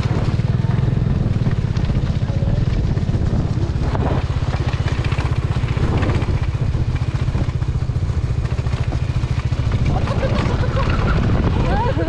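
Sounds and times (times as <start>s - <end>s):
motorbike engine cruising: 0.0s - 12.0s.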